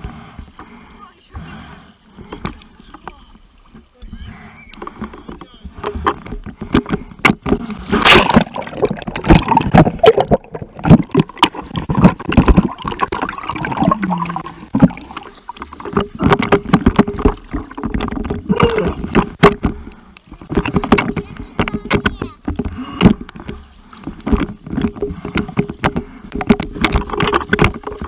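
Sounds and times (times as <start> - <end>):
sea water splashing and sloshing: 0.0 - 28.0
water gurgling: 0.0 - 28.0.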